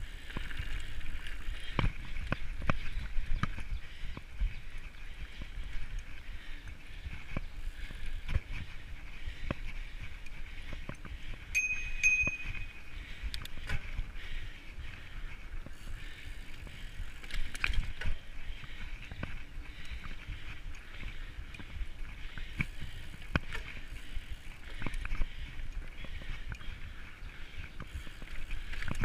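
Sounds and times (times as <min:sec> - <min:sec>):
bike knocking and rattling: 0:00.0 - 0:29.0
bike tyres rushing on dirt trail: 0:00.0 - 0:29.0.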